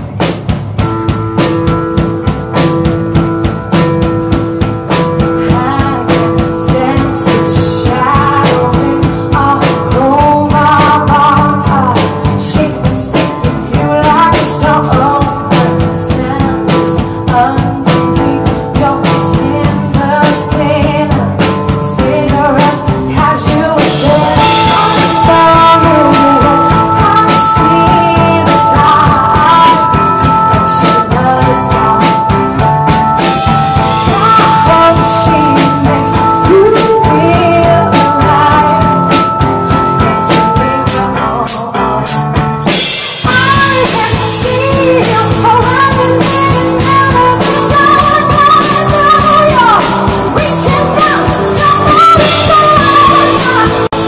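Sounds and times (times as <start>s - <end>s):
band playing: 0.0s - 54.0s
steady drum beat: 0.0s - 54.0s
woman singing into a microphone: 5.2s - 54.0s.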